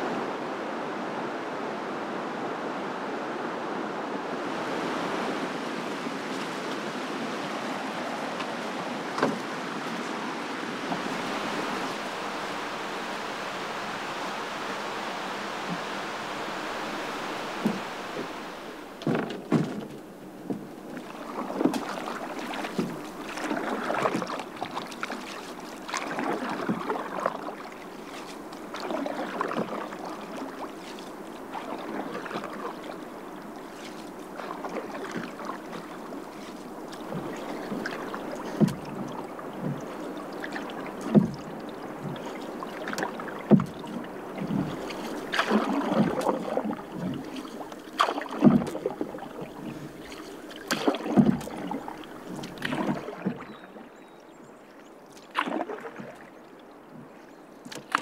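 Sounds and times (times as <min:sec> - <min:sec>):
paddle swishing in water: 0:03.8 - 0:58.0.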